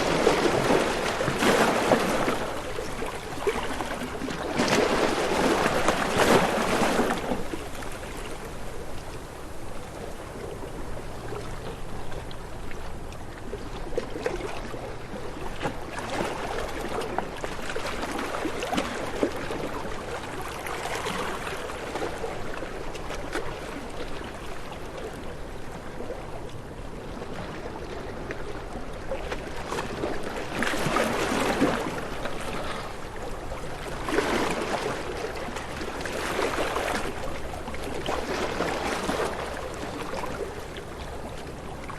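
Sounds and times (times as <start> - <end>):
small waves lapping: 0.0 - 41.9.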